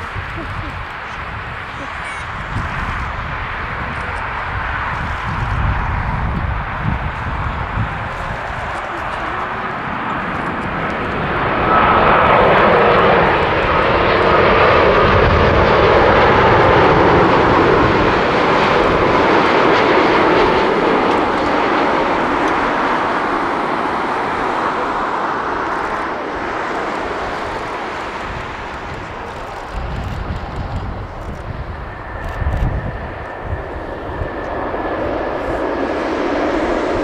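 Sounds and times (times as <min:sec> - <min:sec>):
airliner engine noise: 0:00.0 - 0:37.0.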